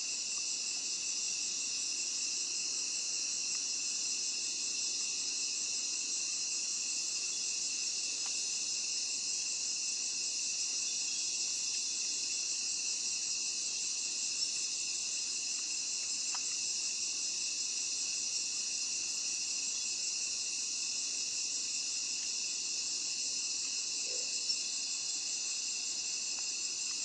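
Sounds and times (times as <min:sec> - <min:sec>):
night insects chirping: 0:00.0 - 0:27.0.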